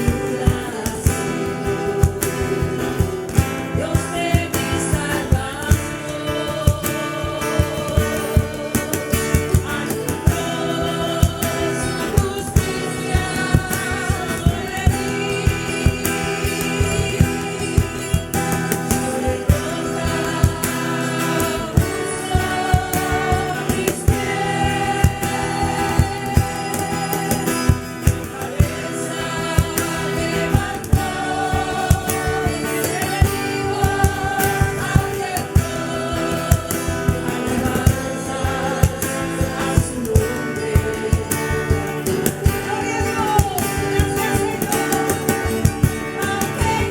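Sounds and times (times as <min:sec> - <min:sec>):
group singing worship song: 0:00.0 - 0:46.9
instruments with steady beat: 0:00.0 - 0:46.9.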